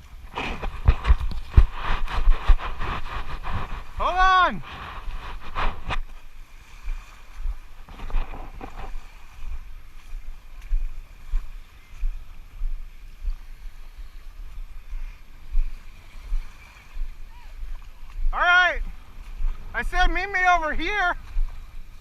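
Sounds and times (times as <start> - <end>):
wind buffeting microphone: 0.0 - 20.5
water splashing and sloshing: 0.0 - 22.0.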